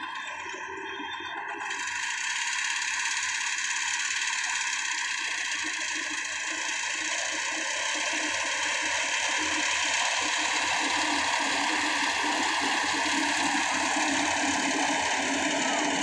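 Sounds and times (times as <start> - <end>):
combine harvester engine pulsing: 0.1 - 16.0.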